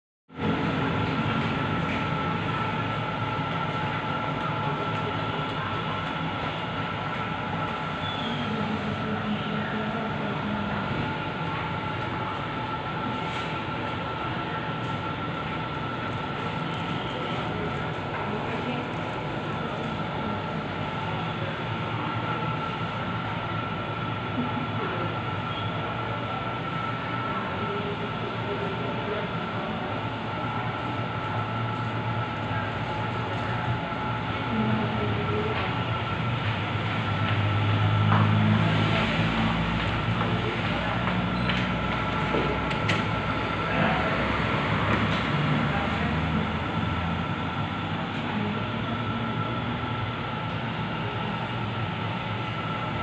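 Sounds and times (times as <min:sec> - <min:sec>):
mechanical hum and rumble: 0:00.3 - 0:53.0.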